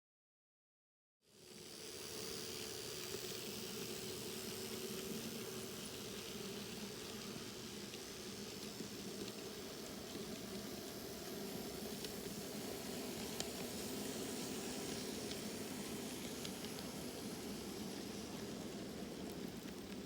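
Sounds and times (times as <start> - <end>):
model train whirring on track: 1.3 - 20.0.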